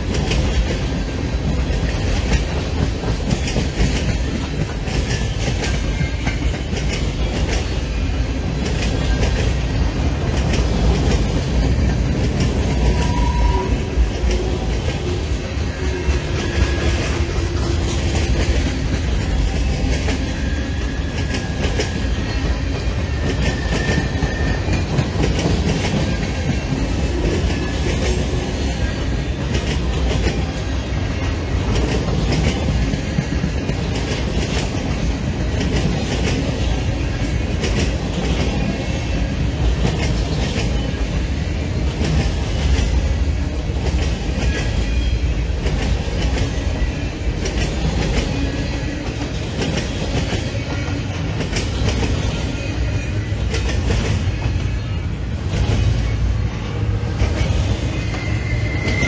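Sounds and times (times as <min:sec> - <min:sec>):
train cars rumbling past: 0:00.0 - 0:59.0.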